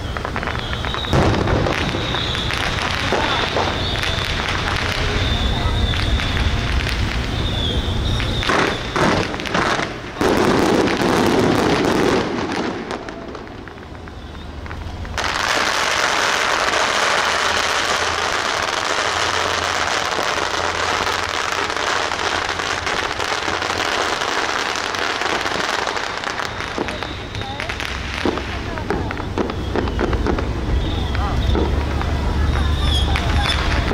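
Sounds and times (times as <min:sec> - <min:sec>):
firecrackers banging and crackling: 0:00.0 - 0:33.9.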